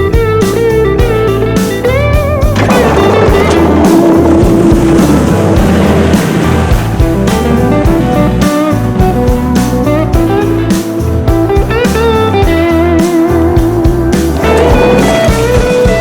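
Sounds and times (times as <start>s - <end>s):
electric guitar with steady beat: 0.0s - 16.0s.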